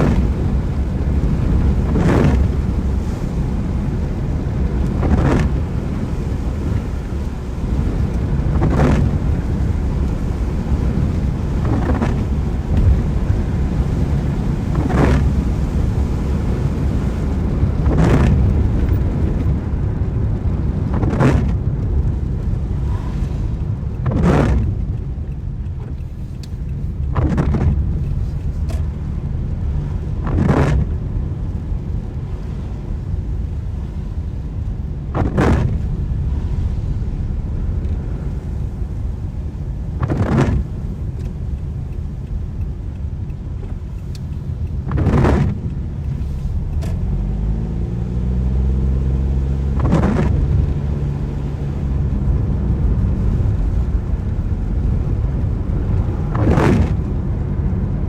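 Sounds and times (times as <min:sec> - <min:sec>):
car driving on a wet road: 0:00.0 - 0:58.0
windscreen wipers swishing: 0:00.0 - 0:58.0.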